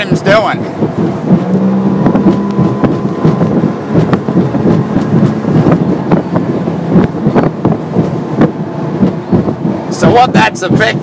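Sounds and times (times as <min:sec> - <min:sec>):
outboard motor drone: 0:00.0 - 0:10.9
wind buffeting microphone: 0:00.0 - 0:11.0
hull knocking on waves: 0:00.8 - 0:09.7.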